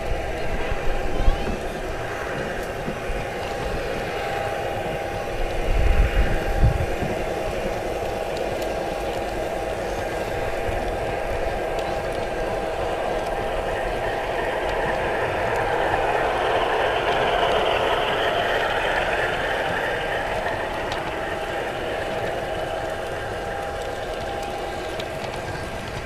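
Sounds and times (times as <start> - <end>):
model train mechanical hum: 0.0 - 26.0.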